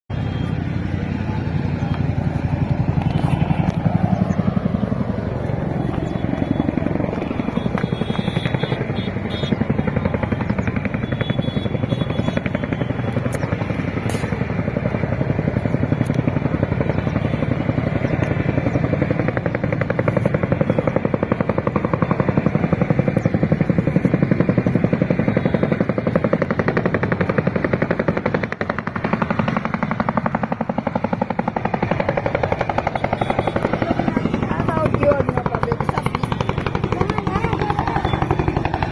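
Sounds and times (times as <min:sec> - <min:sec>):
helicopter rotor chopping: 0:00.1 - 0:38.9.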